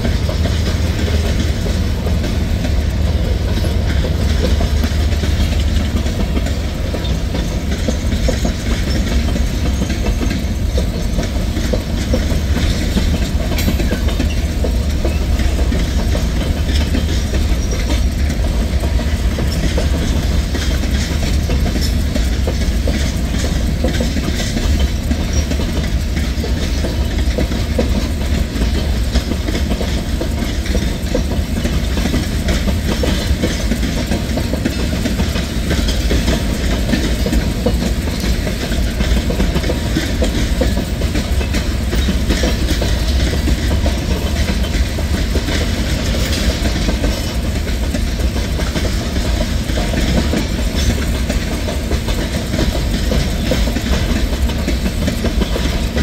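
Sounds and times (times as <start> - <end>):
freight train rolling past: 0.0 - 56.0
steel wheels rumbling on rails: 0.0 - 56.0.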